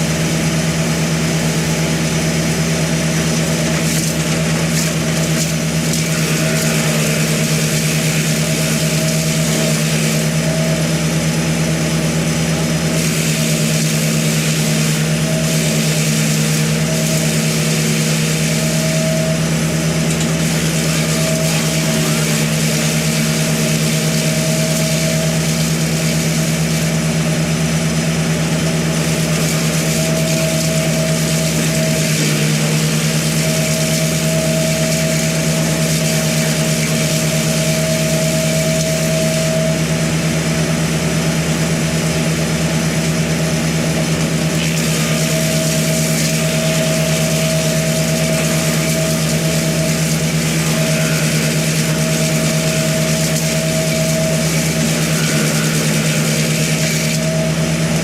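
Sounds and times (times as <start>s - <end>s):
engine running steadily: 0.0s - 58.0s
high-pitched whine: 0.0s - 58.0s.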